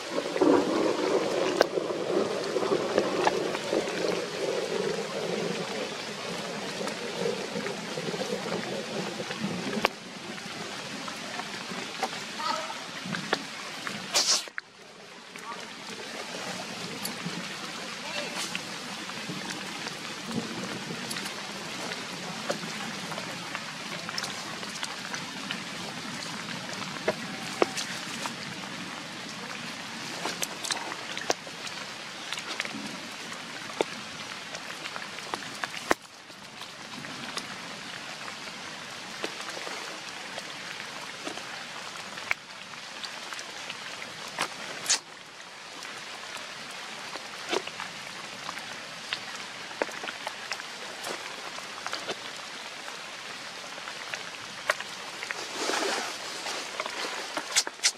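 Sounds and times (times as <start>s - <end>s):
drips pattering on puddles: 0.0s - 57.9s
steady rain: 0.0s - 57.9s.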